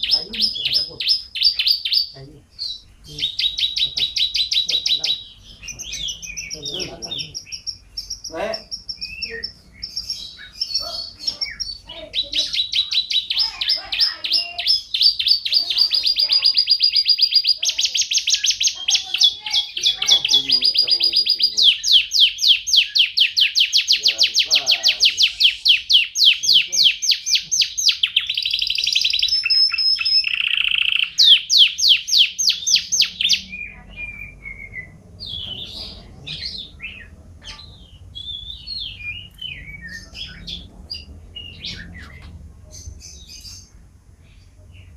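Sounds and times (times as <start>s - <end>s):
canary singing rapid trills: 0.0s - 44.0s.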